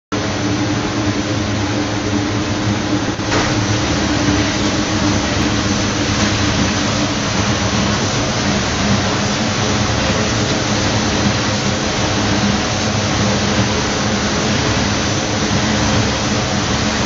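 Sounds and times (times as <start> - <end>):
loud steady machine noise: 0.1 - 17.0.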